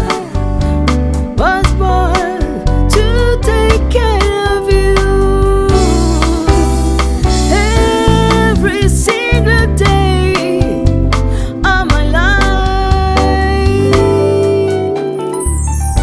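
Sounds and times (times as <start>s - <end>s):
live band playing soul-pop: 0.0s - 16.0s.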